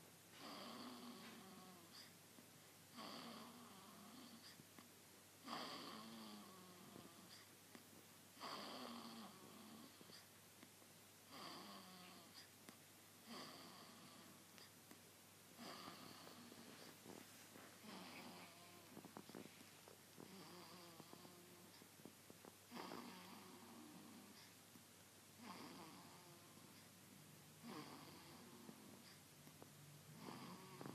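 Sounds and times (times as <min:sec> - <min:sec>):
baby snoring faintly: 0:00.3 - 0:10.4, 0:11.2 - 0:24.8, 0:25.4 - 0:27.0, 0:27.6 - 0:30.9.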